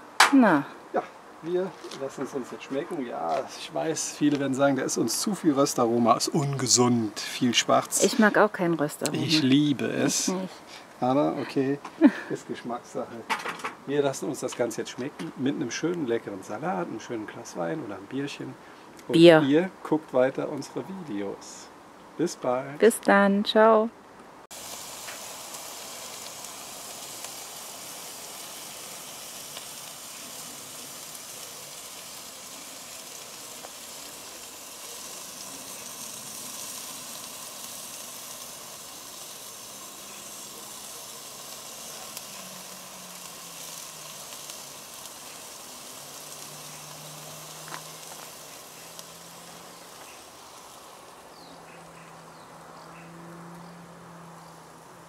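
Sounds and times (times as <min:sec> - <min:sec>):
meat sizzling on a grill: 0:00.0 - 0:21.6, 0:24.5 - 0:55.0.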